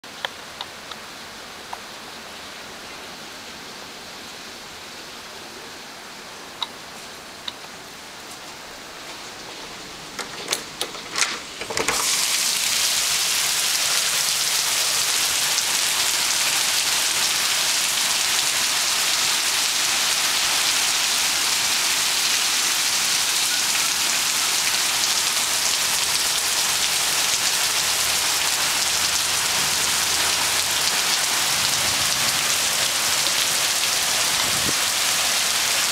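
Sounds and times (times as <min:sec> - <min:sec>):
heavy rain on pavement and cars: 0:00.0 - 0:10.4, 0:11.8 - 0:35.9.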